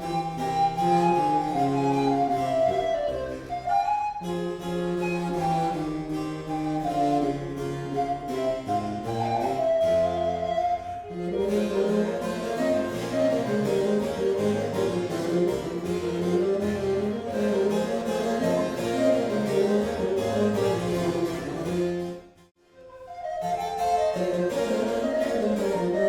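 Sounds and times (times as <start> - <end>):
recorder melody: 0.0 - 22.1, 22.7 - 26.0
harpsichord: 0.0 - 22.3
bassoon: 0.0 - 26.0.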